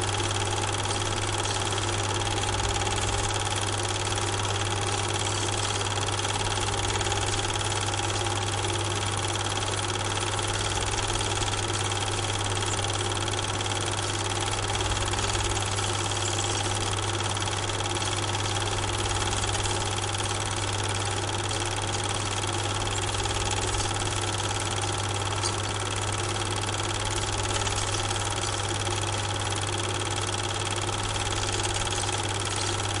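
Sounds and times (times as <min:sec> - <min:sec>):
steady mechanical hum with hiss: 0:00.0 - 0:33.0.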